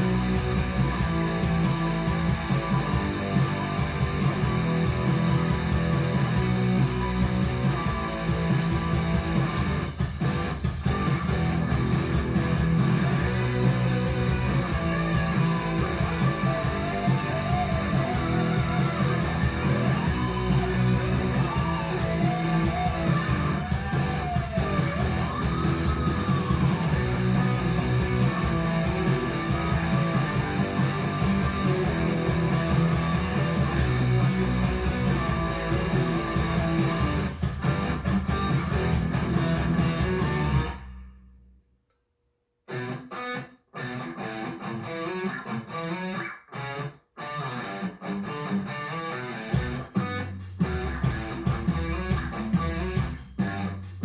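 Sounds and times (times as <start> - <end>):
guitar-led music: 0.0 - 41.1, 42.7 - 54.0.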